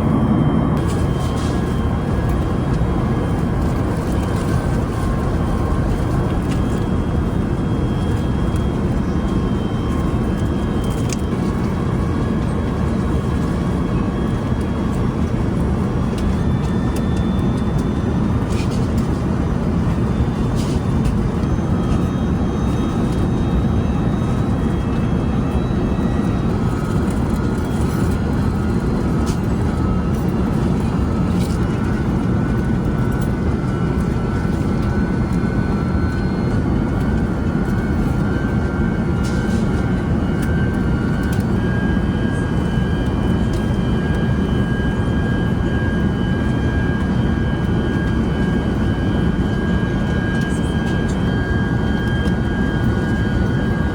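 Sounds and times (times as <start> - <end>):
airliner cabin roar: 0.0 - 53.9.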